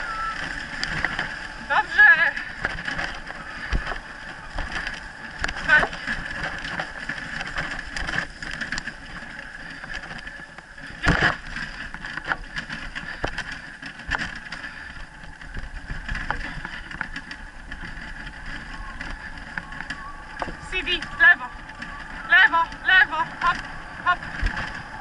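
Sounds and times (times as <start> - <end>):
wheels rattling over dirt trail: 0.0 - 25.0.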